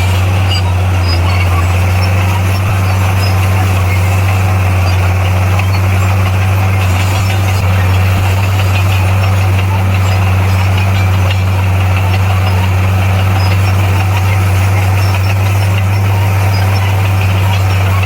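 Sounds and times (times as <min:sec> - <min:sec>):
bulldozer diesel engine droning: 0:00.0 - 0:18.0.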